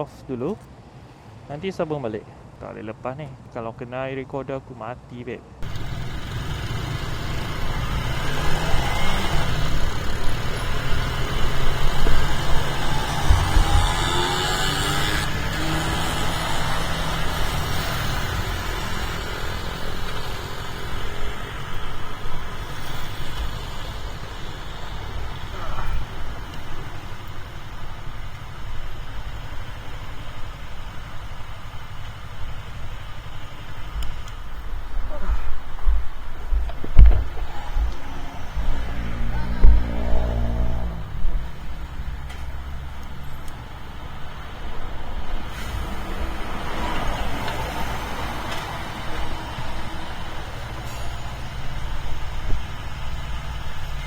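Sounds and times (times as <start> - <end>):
wind and road noise: 5.0 - 54.0
motorcycle engine: 5.6 - 54.0.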